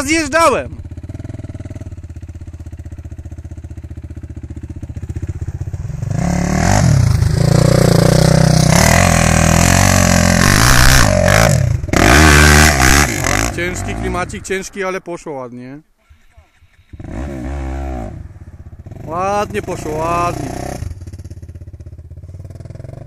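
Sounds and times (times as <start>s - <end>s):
quad bike engine revving: 0.0s - 14.6s, 16.8s - 23.0s.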